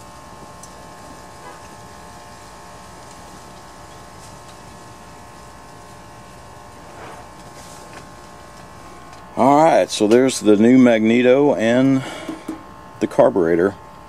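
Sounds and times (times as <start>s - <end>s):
steady buzzing hum: 0.0s - 14.0s.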